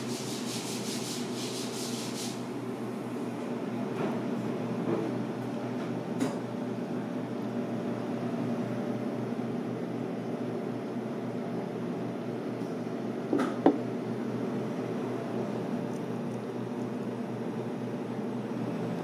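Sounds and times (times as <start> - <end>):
low mechanical room hum: 0.0 - 19.0.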